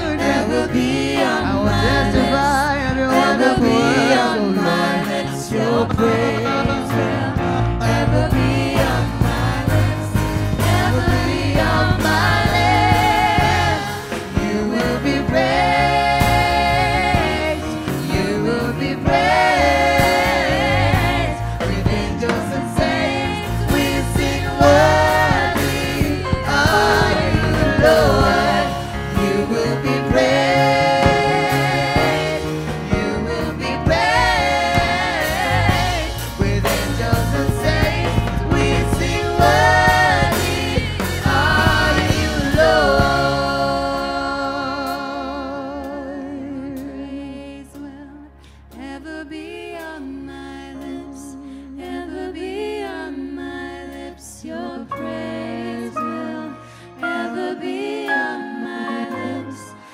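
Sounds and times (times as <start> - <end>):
band with steady bass line: 0.0 - 49.1
group singing a gospel song: 0.0 - 59.9
keyboard: 0.0 - 59.9.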